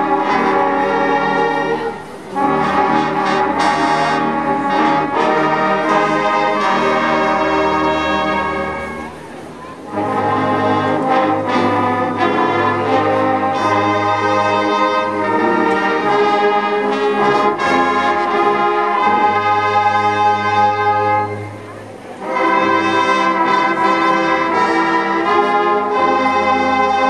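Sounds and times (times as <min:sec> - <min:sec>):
marching band brass chords: 0:00.0 - 0:27.0.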